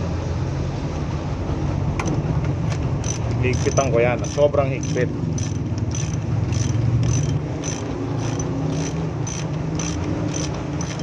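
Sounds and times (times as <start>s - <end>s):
regular metallic tick: 2.0s - 11.0s.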